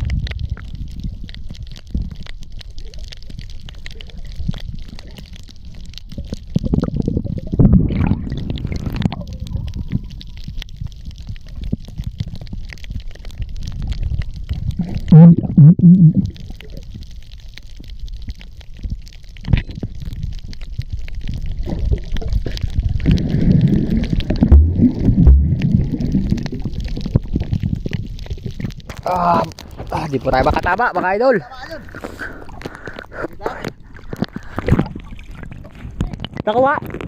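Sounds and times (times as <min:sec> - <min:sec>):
low underwater rumble: 0:00.0 - 0:30.8, 0:32.1 - 0:37.0
crackling hiss: 0:00.0 - 0:37.0
underwater bubbling bursts: 0:00.0 - 0:37.0.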